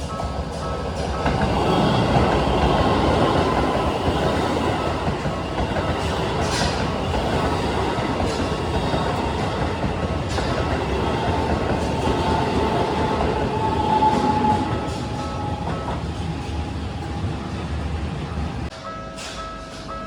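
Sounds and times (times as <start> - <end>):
crossing warning bell: 0.0 - 17.6, 18.2 - 20.0
electric train passing: 0.0 - 20.0.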